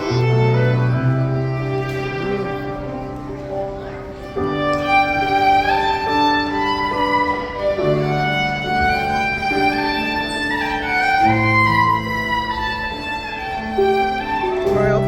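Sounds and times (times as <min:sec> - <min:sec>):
violin melody: 0:00.0 - 0:15.0.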